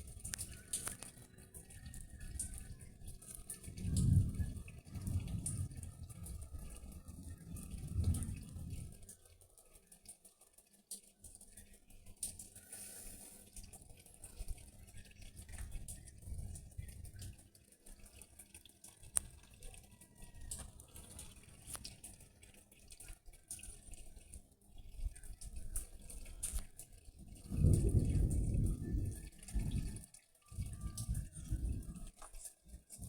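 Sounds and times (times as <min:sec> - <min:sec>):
rain dripping and pattering: 0:00.0 - 0:33.0.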